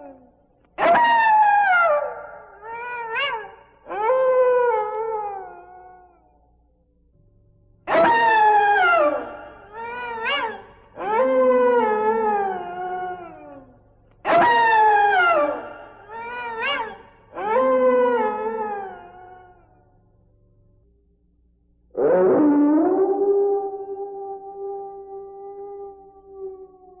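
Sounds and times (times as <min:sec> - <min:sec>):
animal howling: 0:00.0 - 0:06.2, 0:07.9 - 0:19.7, 0:22.0 - 0:27.0.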